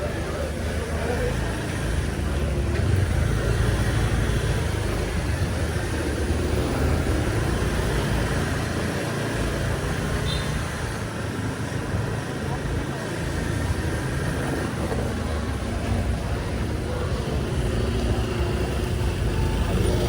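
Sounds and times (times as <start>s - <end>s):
vehicle engines passing: 0.0s - 20.0s.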